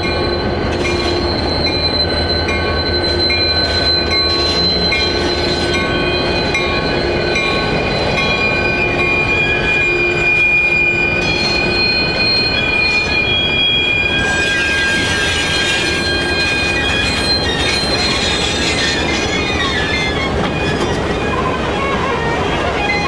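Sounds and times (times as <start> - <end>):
train low rumble: 0.0 - 23.0
train wheels squealing on rails: 0.0 - 23.0.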